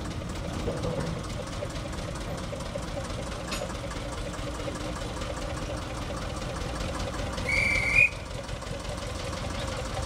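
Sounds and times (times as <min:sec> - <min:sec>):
diesel locomotive engine chugging: 0:00.0 - 0:10.0.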